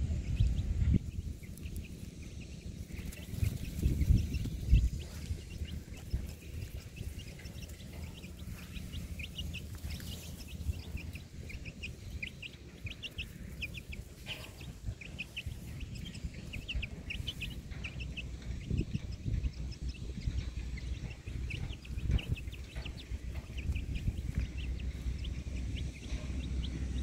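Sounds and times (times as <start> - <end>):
high-pitched chirping calls: 0.0 - 27.0
steady low rumble: 0.0 - 27.0.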